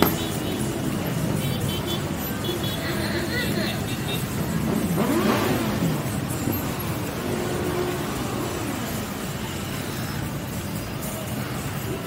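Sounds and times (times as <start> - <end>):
din of motorcycle engines: 0.0 - 12.0
motorcycle engines revving: 0.0 - 12.0.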